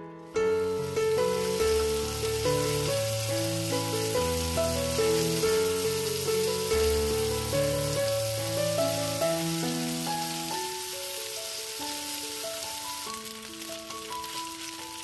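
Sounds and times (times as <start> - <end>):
melodic background music: 0.2 - 15.0
pork sizzling in a pan: 0.4 - 15.0.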